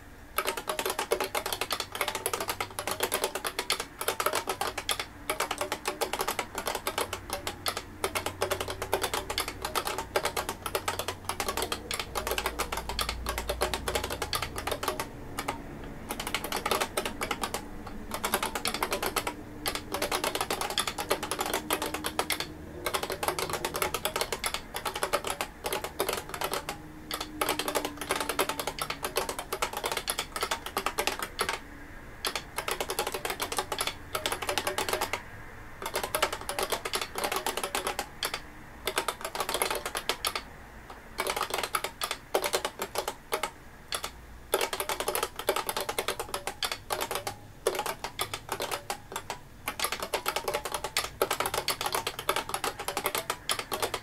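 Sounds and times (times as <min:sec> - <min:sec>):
keyboard key clacks: 0:00.0 - 0:31.6, 0:32.2 - 0:35.2, 0:35.8 - 0:54.0.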